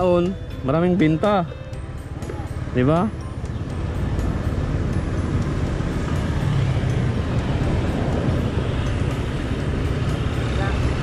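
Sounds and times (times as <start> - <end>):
motor scooter engine idling: 0.0 - 11.0.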